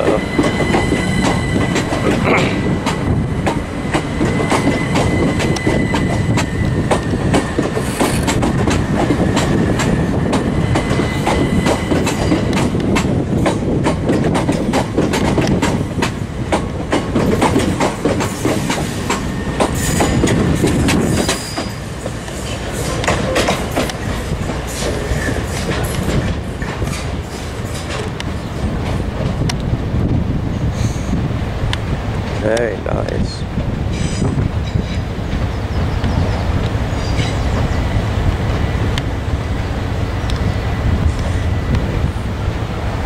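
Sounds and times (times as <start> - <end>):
train wheels clicking over rail joints: 0.0 - 29.8, 30.7 - 37.8.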